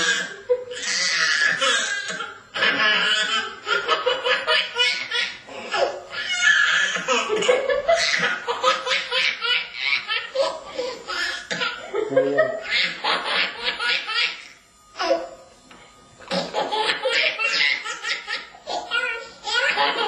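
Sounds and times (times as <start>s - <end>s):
toddler laughing: 0.0s - 15.3s, 16.3s - 20.0s.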